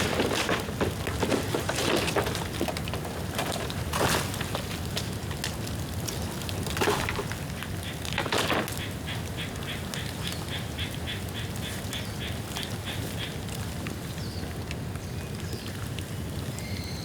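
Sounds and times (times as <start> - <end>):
bonfire crackling: 0.0 - 11.6, 12.3 - 16.6.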